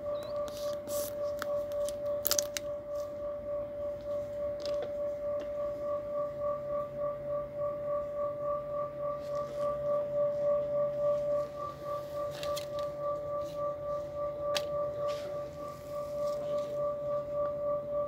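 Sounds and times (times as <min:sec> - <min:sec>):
steady wavering tone: 0:00.0 - 0:18.0.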